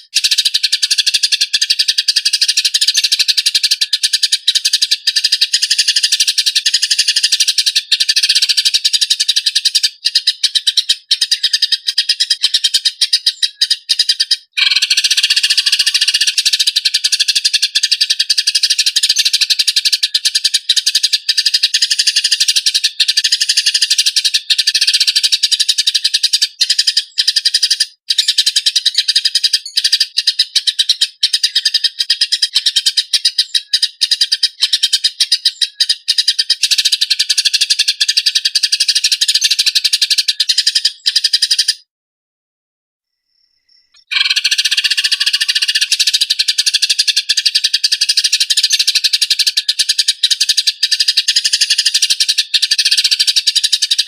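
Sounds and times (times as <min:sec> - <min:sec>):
sparrows chattering harsh calls: 0:00.0 - 0:41.9, 0:43.7 - 0:54.0.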